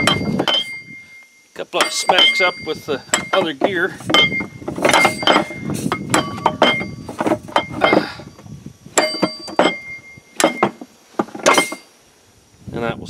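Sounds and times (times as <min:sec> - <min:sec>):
metallic clanks on gears: 0:00.0 - 0:08.4, 0:09.0 - 0:11.9.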